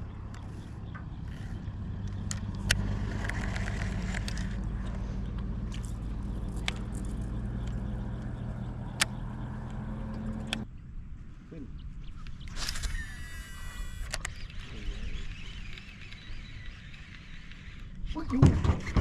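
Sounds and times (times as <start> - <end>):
engine humming: 0.0 - 19.0
sharp clicks: 0.3 - 10.7, 12.2 - 18.0.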